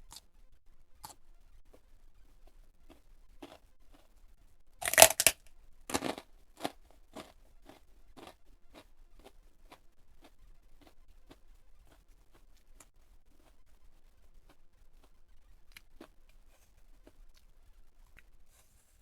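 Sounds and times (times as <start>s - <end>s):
soft chewing: 0.0s - 19.0s
crunching bites of fried food: 0.9s - 1.2s, 2.5s - 4.2s, 4.8s - 18.4s.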